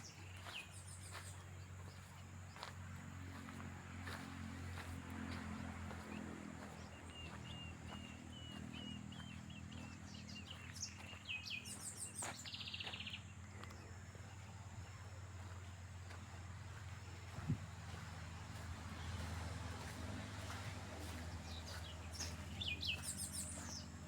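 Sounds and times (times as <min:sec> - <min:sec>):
faint low hum: 0:00.0 - 0:24.0
songbirds chirping: 0:00.0 - 0:24.0.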